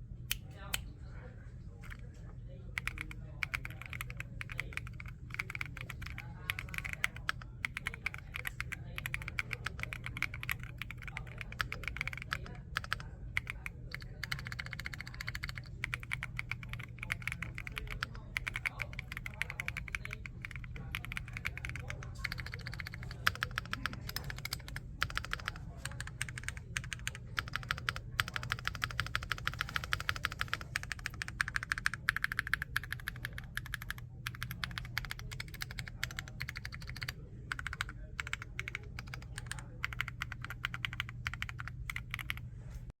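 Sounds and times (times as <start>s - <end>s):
steady low hum: 0.0s - 43.0s
mechanical keyboard typing: 2.8s - 42.4s.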